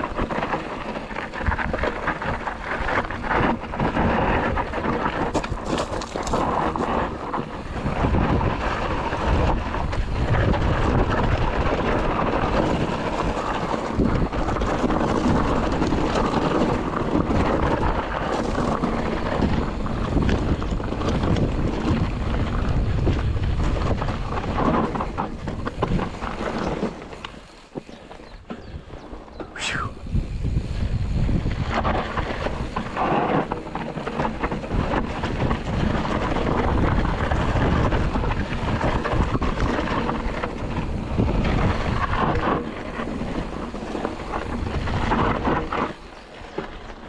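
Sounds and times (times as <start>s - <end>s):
mountain bike rattling and knocking: 0.0s - 29.6s, 30.2s - 47.0s
tyres on dirt and rock: 0.0s - 47.0s
wind buffeting microphone: 0.0s - 47.0s.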